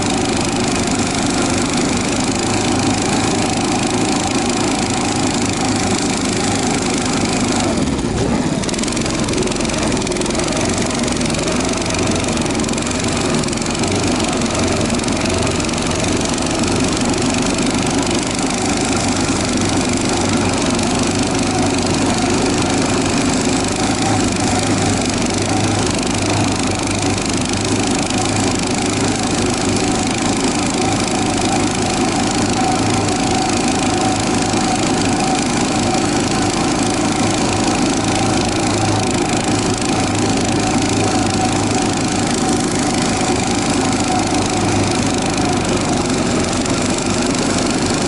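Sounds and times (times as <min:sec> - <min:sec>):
snow tow engine running: 0:00.0 - 0:48.0.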